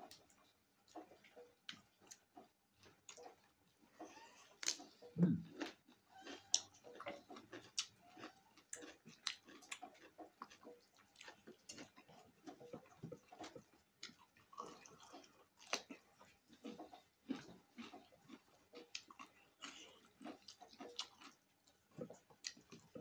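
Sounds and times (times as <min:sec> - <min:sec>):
person chewing: 0:00.0 - 0:23.0.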